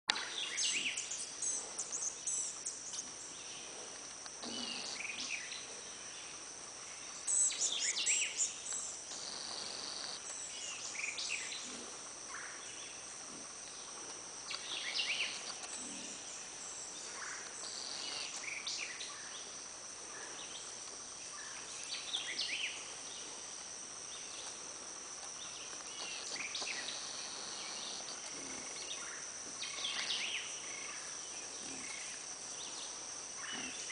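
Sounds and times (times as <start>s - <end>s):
high insect drone: 0.1s - 33.9s.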